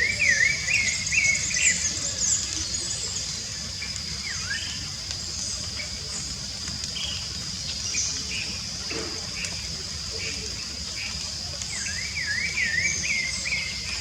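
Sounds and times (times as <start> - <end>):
wild birds chirping: 0.0 - 14.0.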